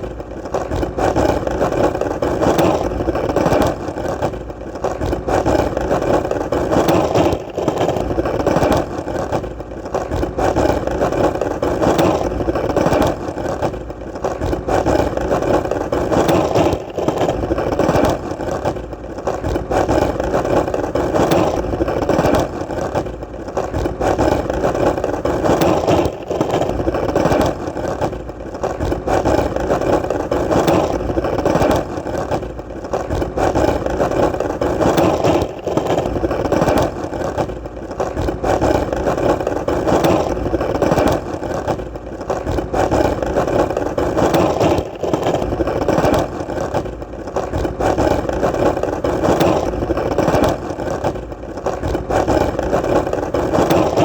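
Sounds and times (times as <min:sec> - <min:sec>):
skateboard wheels rolling: 0:00.0 - 0:54.0.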